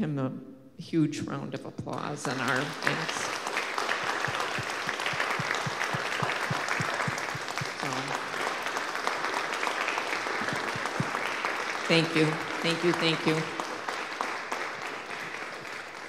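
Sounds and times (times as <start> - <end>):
crowd applauding: 2.2 - 16.0.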